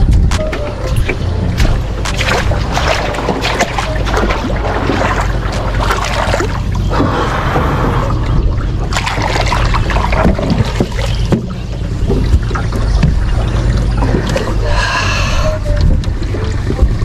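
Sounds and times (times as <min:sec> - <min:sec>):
steady low rumble: 0:00.0 - 0:17.0
water splashing around boat hull: 0:00.0 - 0:17.0.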